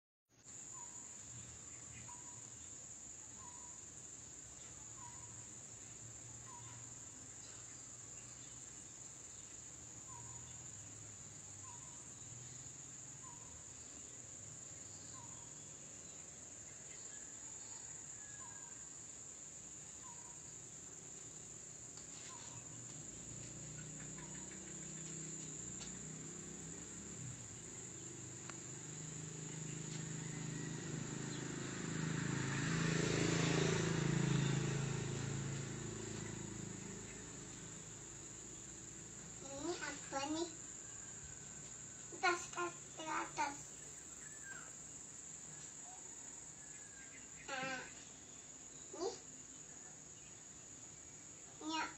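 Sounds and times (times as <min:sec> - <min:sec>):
crickets trilling: 0:00.4 - 0:51.9.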